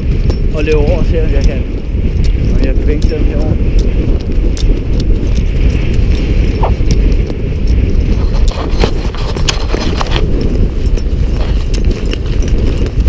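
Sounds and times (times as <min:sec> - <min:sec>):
running footsteps: 0:00.0 - 0:13.0
wind buffeting microphone: 0:00.0 - 0:13.0.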